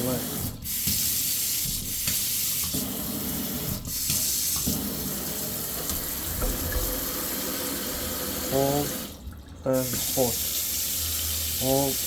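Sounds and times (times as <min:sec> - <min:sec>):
tap water splashing into sink: 0:00.7 - 0:11.6.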